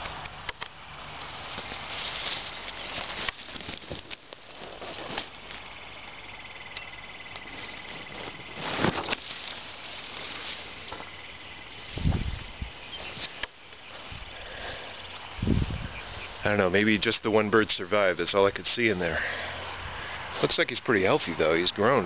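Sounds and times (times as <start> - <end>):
leaves and twigs rustling: 0.0 - 22.0.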